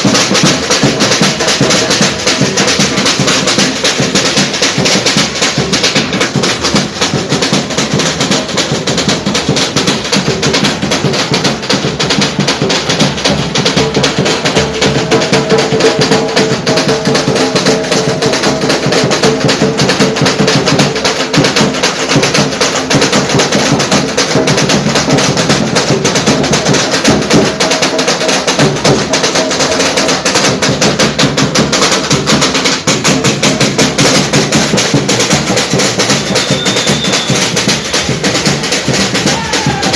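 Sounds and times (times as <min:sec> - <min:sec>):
samba percussion ensemble: 0:00.0 - 0:39.9.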